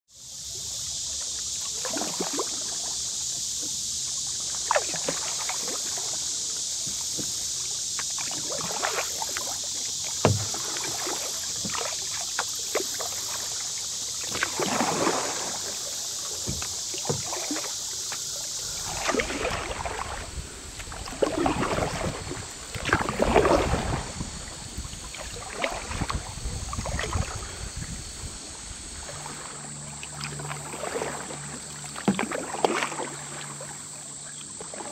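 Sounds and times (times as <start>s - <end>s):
steady high hiss: 0.2s - 30.5s
paddle splashing in water: 0.4s - 34.9s.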